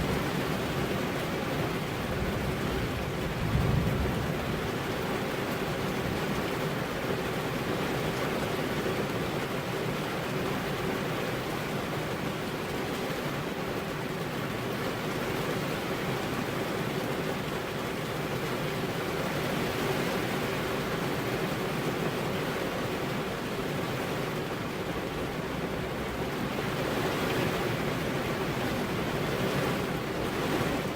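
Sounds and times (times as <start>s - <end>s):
heavy rain on car windows: 0.0s - 30.9s.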